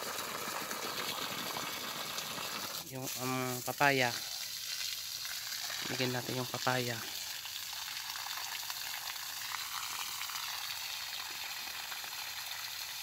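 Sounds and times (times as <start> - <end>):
water from garden hose splashing: 0.0 - 13.0.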